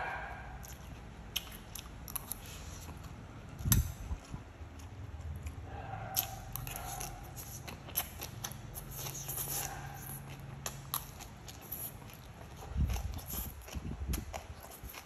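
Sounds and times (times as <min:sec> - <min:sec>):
wet slurping and chewing: 0:00.6 - 0:15.0.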